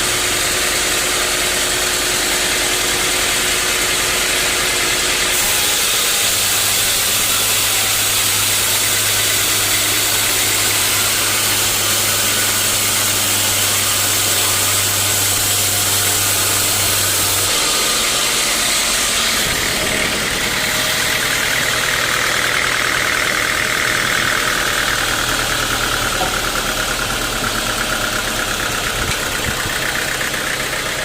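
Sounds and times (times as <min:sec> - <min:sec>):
sawmill machinery humming: 0:00.0 - 0:31.0.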